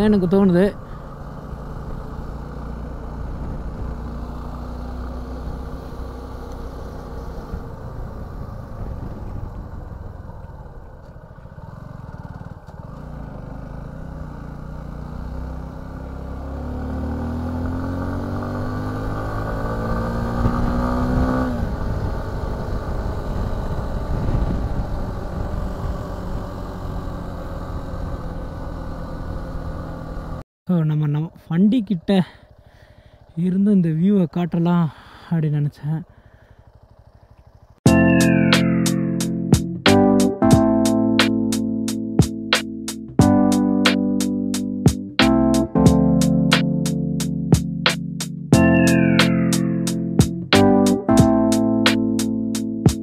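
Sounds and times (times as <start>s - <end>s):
motorcycle engine revving: 0.0s - 30.4s, 31.3s - 53.0s.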